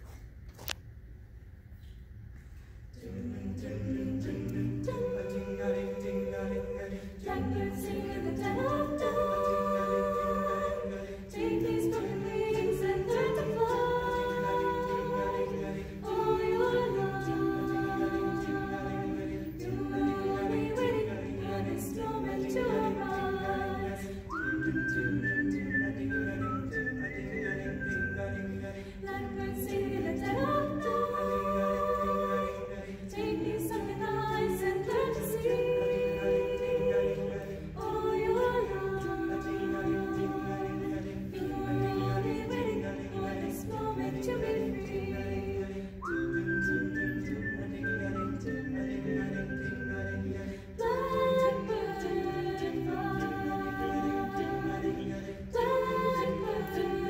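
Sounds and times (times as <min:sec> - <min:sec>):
mixed choir singing a cappella: 0:02.9 - 0:57.0.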